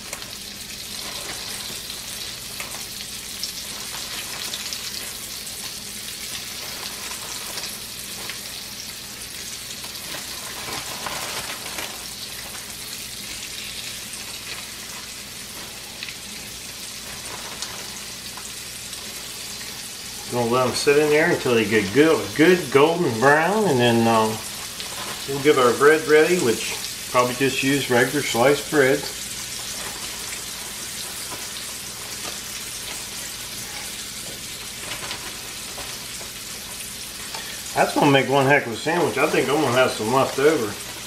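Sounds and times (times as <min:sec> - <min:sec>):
small crackles: 0:00.0 - 0:20.4, 0:24.2 - 0:27.2, 0:27.8 - 0:38.2, 0:39.0 - 0:41.0
mushroom pieces frying in oil: 0:00.0 - 0:41.0.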